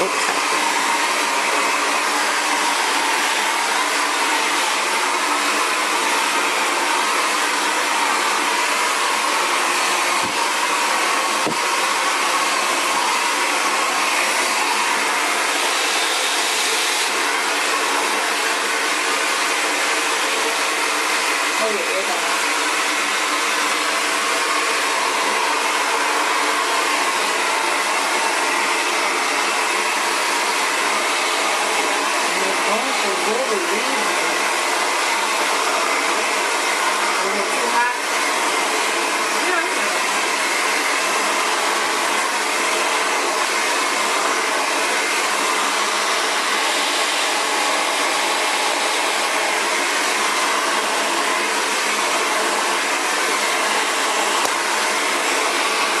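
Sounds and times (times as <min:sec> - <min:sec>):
hair dryer whirring: 0:00.0 - 0:56.0.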